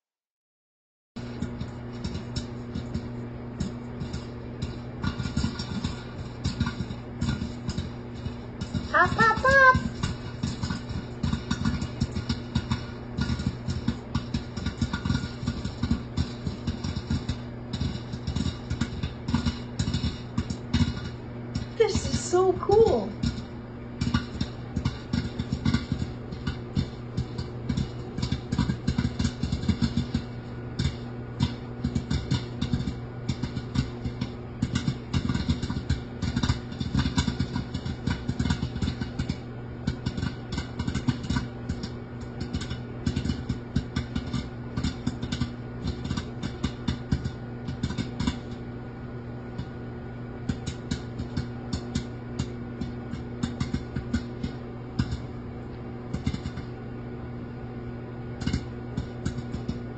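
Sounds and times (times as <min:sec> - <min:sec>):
microwave oven humming: 0:01.2 - 0:59.9
popcorn popping: 0:01.2 - 0:59.9.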